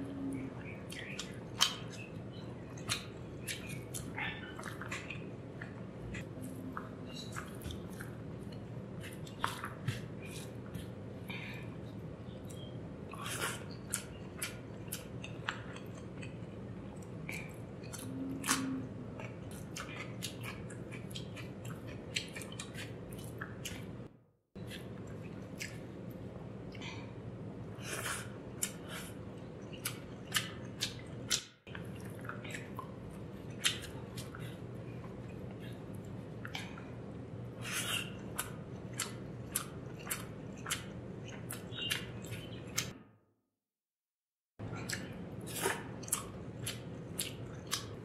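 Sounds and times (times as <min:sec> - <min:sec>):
chewing and wet mouth clicks: 0:00.6 - 0:10.9, 0:12.4 - 0:24.0, 0:24.6 - 0:25.9, 0:29.6 - 0:36.9, 0:37.8 - 0:43.0, 0:44.8 - 0:48.0.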